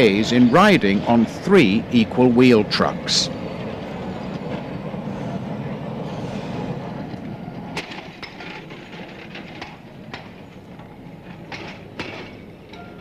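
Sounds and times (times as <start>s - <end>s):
tram rumbling on rails: 0.0s - 13.0s
wheels clicking over track: 0.0s - 13.0s.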